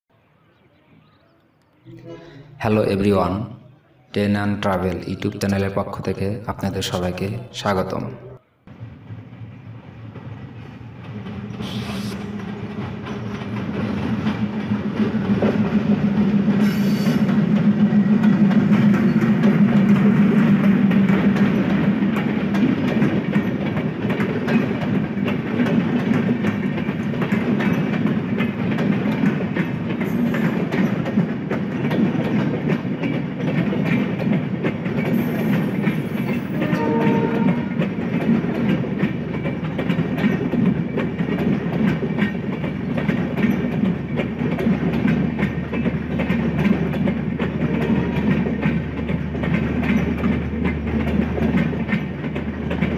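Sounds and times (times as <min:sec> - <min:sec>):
diesel locomotive engine drone: 0:08.2 - 0:52.9
wheels clattering over rail joints: 0:08.8 - 0:52.9.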